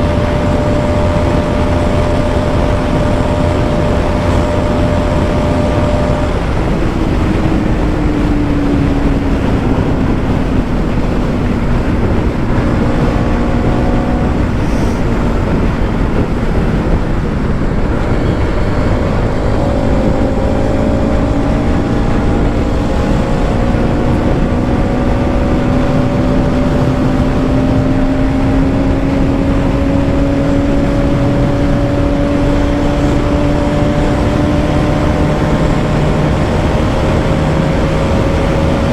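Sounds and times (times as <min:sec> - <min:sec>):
motorcycle engine at high speed: 0:00.0 - 0:38.9
wind noise on microphone: 0:00.0 - 0:38.9.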